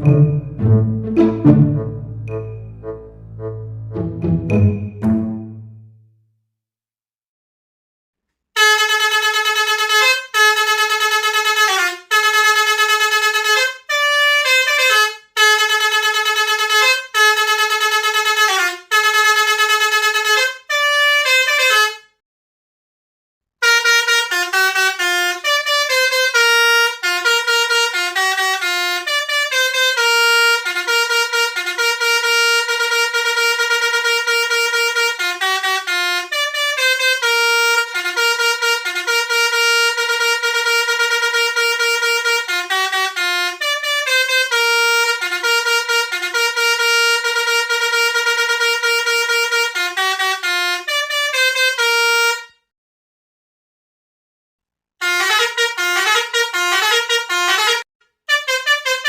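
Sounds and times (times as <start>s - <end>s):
musical bus horn melody: 0.0s - 6.0s, 8.6s - 22.2s, 23.6s - 52.6s, 55.0s - 59.0s.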